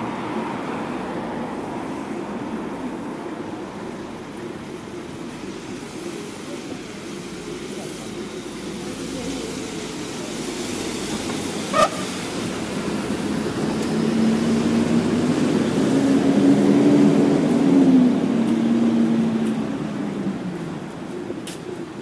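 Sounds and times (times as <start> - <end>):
bus engine drone: 0.0 - 22.0
road traffic hum: 0.0 - 22.0.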